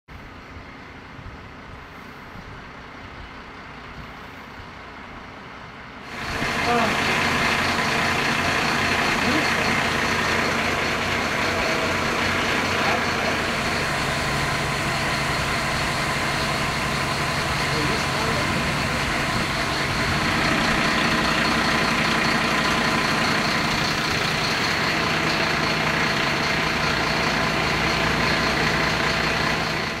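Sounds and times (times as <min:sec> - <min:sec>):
large vehicle engine rumbling: 0:00.1 - 0:30.0.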